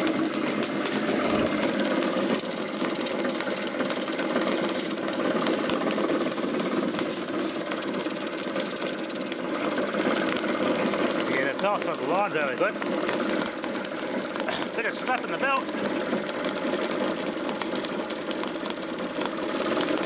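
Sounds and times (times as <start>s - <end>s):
air compressor running: 0.0s - 20.0s
drive belt snapping: 0.0s - 20.0s.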